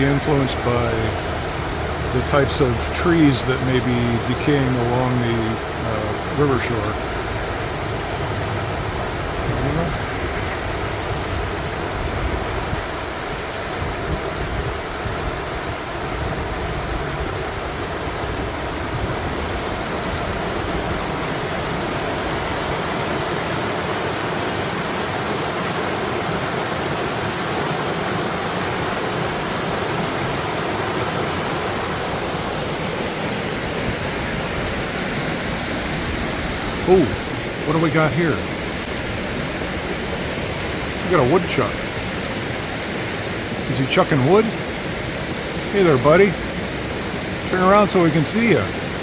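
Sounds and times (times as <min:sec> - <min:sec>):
water rushing over rocks: 0:00.0 - 0:49.0.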